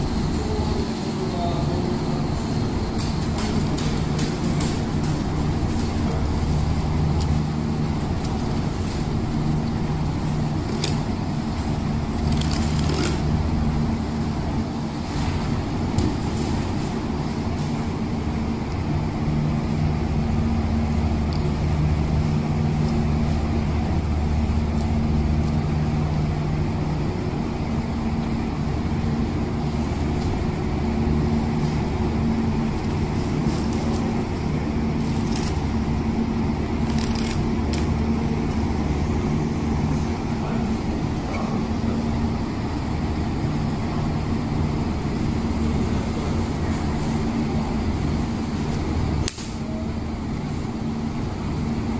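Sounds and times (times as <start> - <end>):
low machine hum: 0.0 - 51.9.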